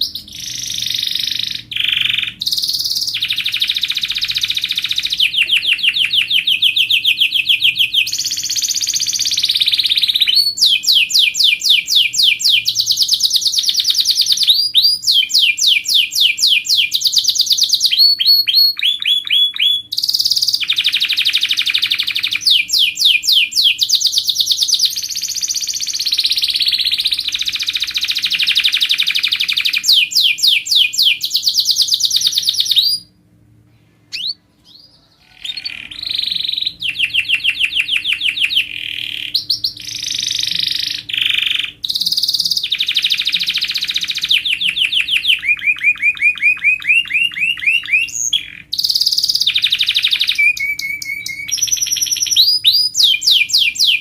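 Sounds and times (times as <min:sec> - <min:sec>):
canary singing trills: 0:00.0 - 0:33.2, 0:34.1 - 0:54.0.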